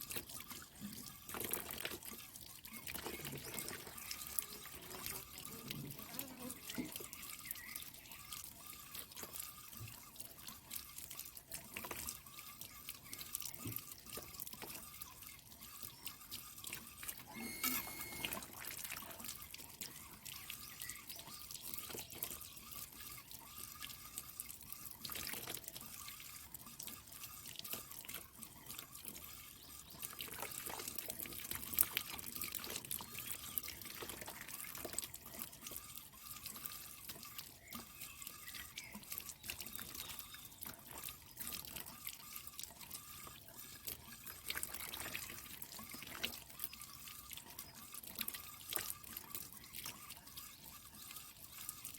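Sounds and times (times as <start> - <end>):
small splashes and knocks: 0.0 - 51.9
water trickling and dripping: 0.0 - 51.9.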